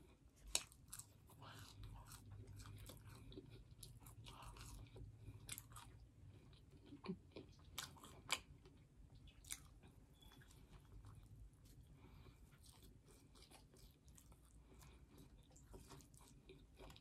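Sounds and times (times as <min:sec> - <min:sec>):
chewing and biting food: 0:00.0 - 0:17.0
low steady hum: 0:00.0 - 0:17.0.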